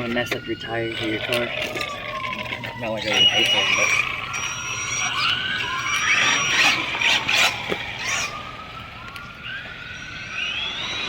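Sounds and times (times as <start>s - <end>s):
electric toy car motors whining: 0.0s - 11.0s.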